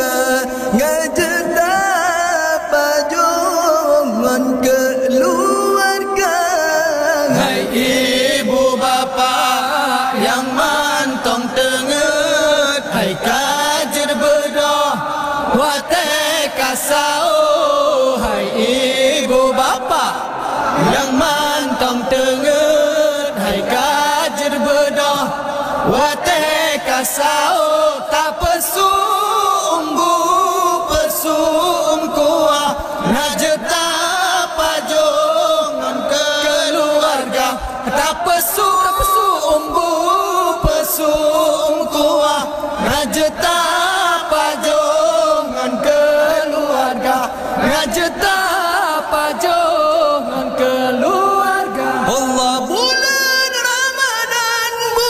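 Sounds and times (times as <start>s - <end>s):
man singing into a microphone: 0.0s - 55.0s
men chanting: 0.0s - 55.0s.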